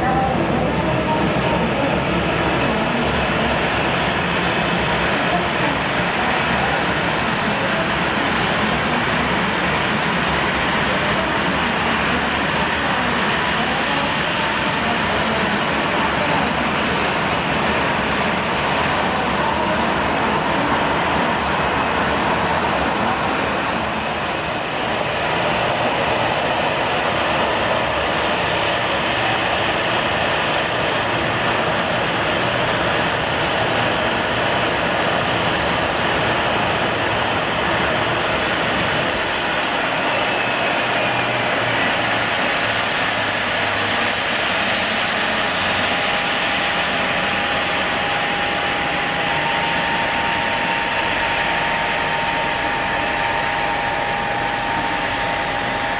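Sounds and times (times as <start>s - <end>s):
jet engines running at low power: 0.0s - 55.9s
steady whine: 0.0s - 55.9s.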